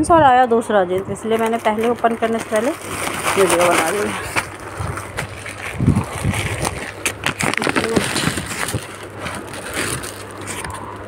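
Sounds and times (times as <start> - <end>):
packaging crinkling and rustling: 1.3 - 11.0.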